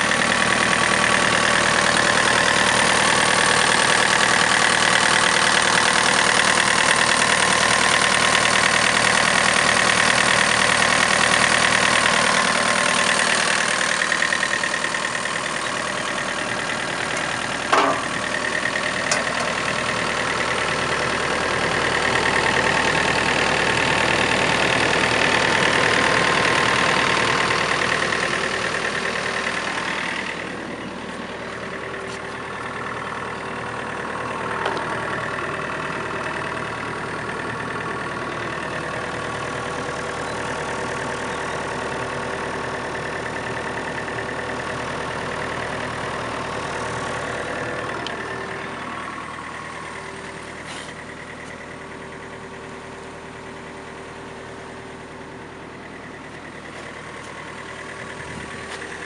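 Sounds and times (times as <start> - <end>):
excavator diesel engine idling: 0.0 - 59.0.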